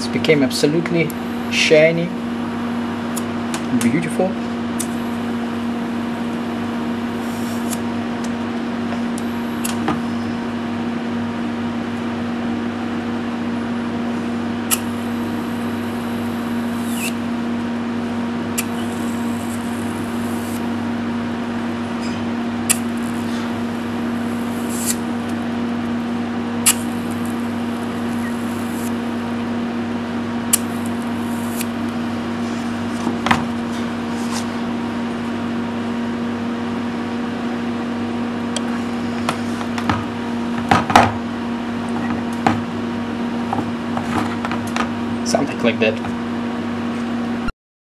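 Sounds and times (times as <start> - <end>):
steady hum: 0.0 - 47.5.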